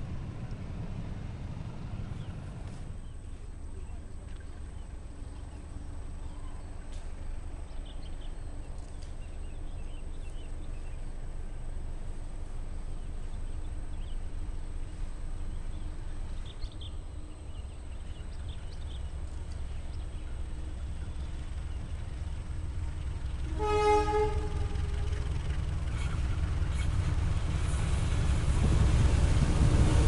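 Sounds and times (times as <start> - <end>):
distant locomotive rumble: 0.0 - 30.0.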